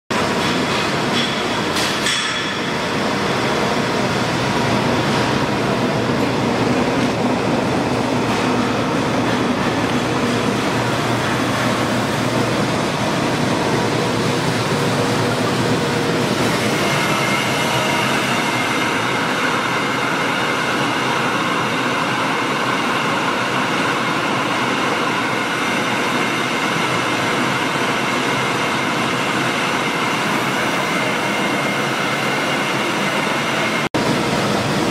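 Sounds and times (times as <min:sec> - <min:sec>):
milling machine running: 0:00.2 - 0:34.9.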